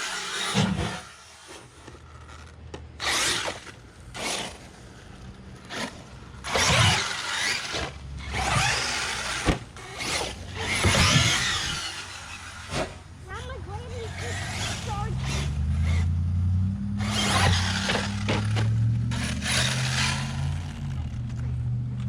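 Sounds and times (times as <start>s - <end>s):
electric motor whining: 0.0s - 21.4s.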